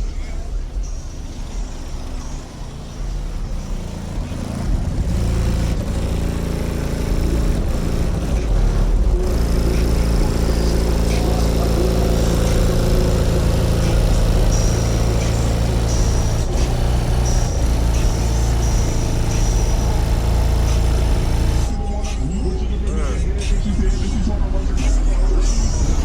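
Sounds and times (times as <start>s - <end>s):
loud bass from subwoofers: 0.0s - 26.0s.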